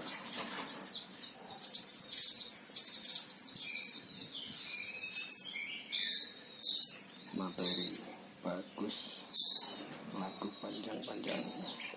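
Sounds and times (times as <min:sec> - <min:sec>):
songbird singing: 0:00.0 - 0:11.9.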